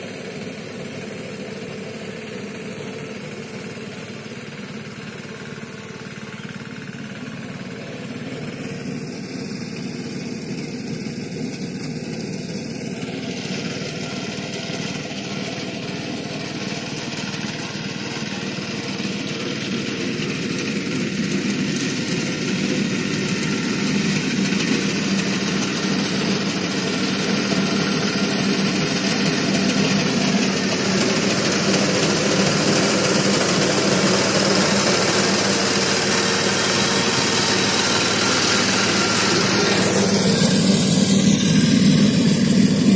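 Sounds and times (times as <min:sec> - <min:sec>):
reaper engine running: 0:00.0 - 0:42.9.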